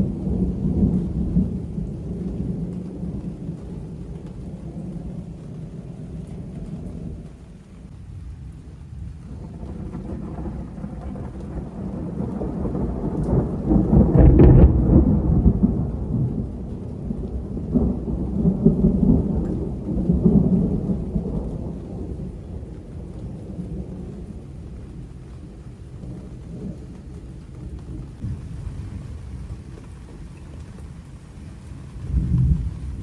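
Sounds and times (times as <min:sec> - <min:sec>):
rolling thunder: 0:00.0 - 0:33.0.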